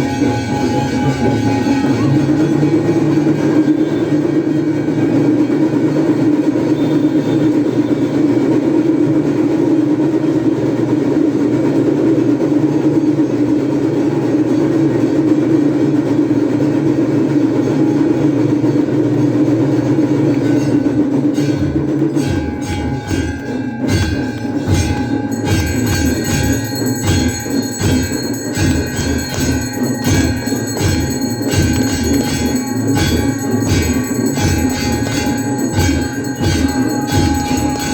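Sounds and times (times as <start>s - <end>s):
ringing bells: 0.0s - 8.5s, 13.1s - 37.9s
cymbals: 0.0s - 37.9s
drums beaten rapidly: 0.0s - 37.9s.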